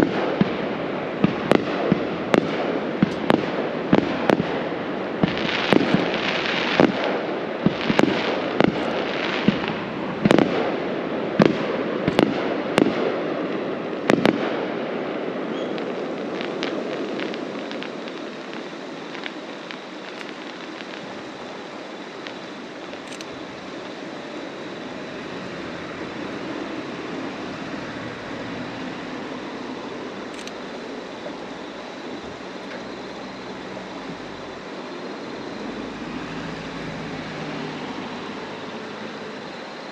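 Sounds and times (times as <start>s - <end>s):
fireworks bursting: 0.0s - 39.9s
fireworks crackling: 0.0s - 39.9s
steady background noise: 0.0s - 39.9s.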